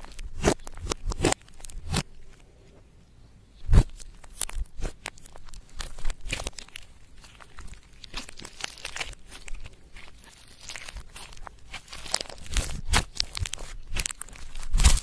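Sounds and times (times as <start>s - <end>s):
slime crackling and popping: 0.0s - 2.1s, 3.7s - 15.0s.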